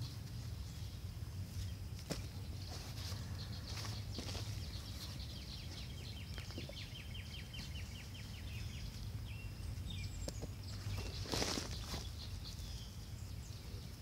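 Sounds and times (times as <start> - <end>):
songbird trilling: 2.4 - 14.0.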